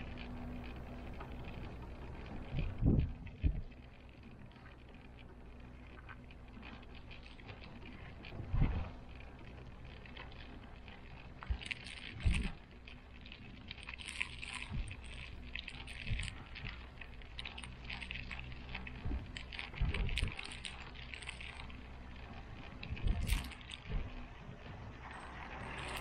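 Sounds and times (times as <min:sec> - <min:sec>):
cable car cabin humming: 0:00.0 - 0:26.0.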